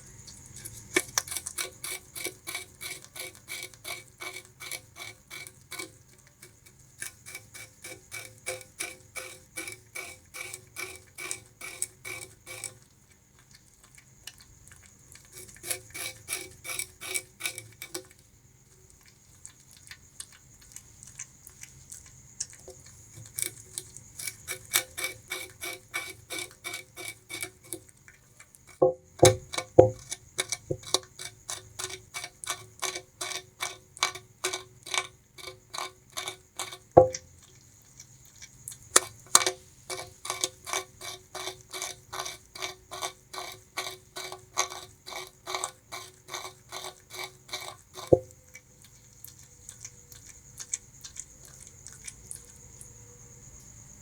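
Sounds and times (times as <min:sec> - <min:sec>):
rodent crunching sugarcane: 0:00.0 - 0:54.0.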